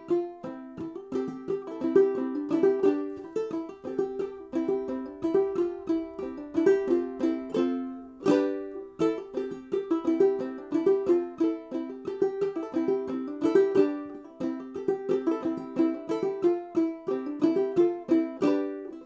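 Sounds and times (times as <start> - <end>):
banjo ukulele plucked: 0.0 - 19.0
strum across strings: 0.0 - 19.0.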